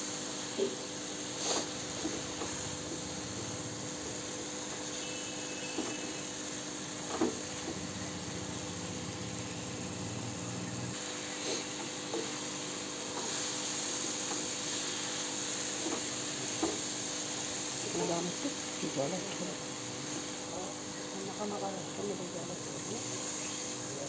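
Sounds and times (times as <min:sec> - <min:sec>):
curry sizzling in a frying pan: 0:00.0 - 0:24.0.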